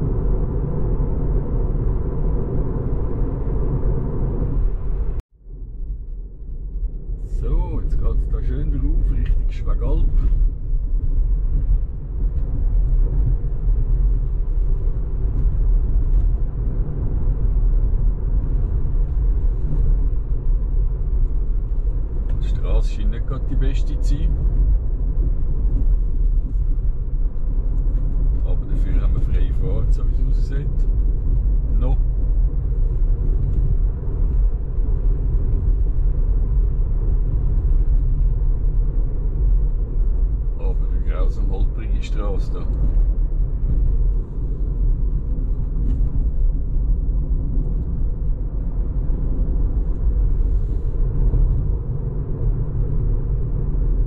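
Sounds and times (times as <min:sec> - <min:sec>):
tyre and road rumble in car: 0:00.0 - 0:54.0.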